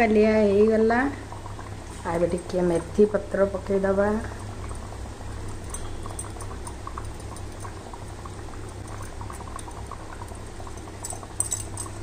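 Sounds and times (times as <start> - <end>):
curry simmering and bubbling: 0.0 - 12.0.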